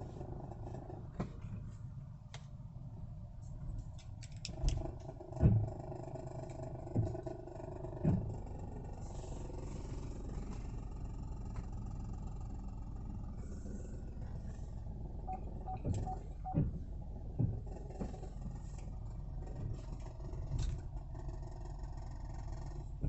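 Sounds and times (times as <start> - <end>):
low car cabin rumble: 0.0 - 23.0.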